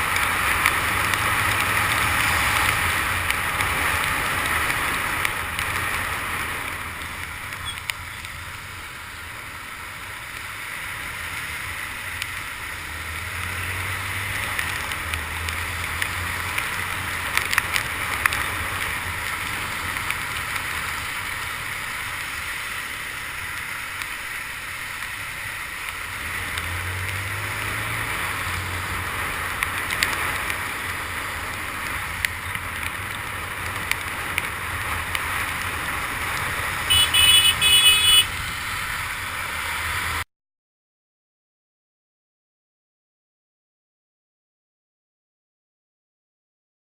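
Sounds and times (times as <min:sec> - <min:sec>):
tyre spray on wet road: 0:00.0 - 0:40.2.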